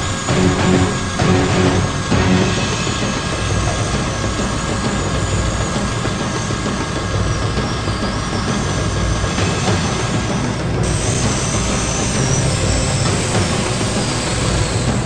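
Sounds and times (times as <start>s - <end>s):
model helicopter rotor and motor whine: 0.0s - 15.0s.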